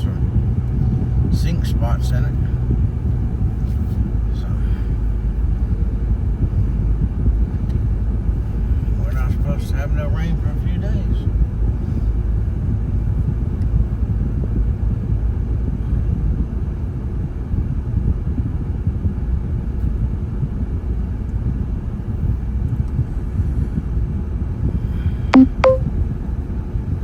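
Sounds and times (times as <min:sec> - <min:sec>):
vehicle engine and tyre rumble: 0:00.0 - 0:25.3.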